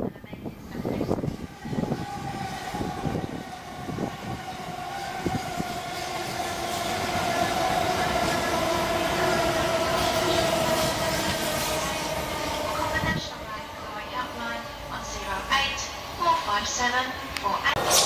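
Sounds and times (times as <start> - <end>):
train whine: 0.0 - 18.0.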